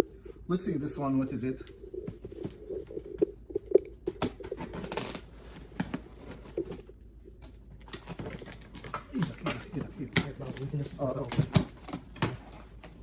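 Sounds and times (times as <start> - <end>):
packaging rustling: 1.5 - 13.0.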